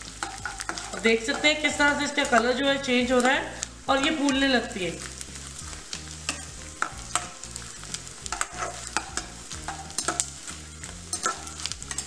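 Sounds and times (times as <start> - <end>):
spatula scraping pan: 0.0 - 2.9, 5.0 - 12.0
gum sizzling in hot fat: 0.0 - 12.0.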